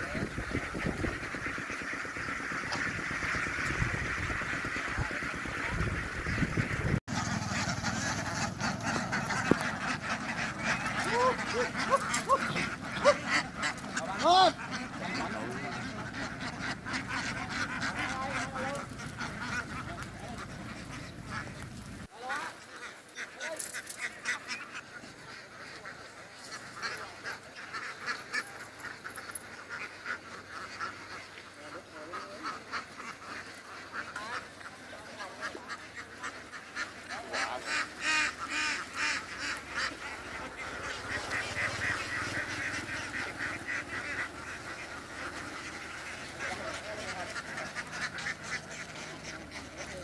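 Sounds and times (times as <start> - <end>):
ducks quacking: 0.0 - 50.0.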